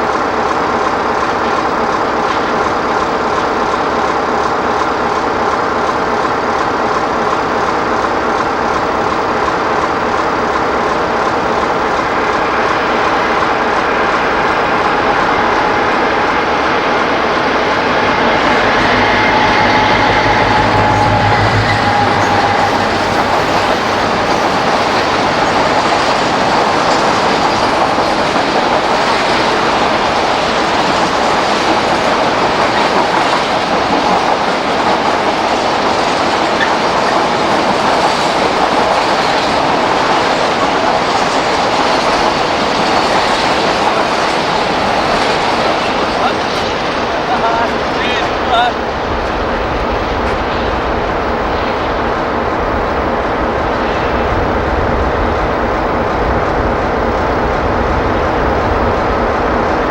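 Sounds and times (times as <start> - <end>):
train wheels clattering: 0.0 - 59.9.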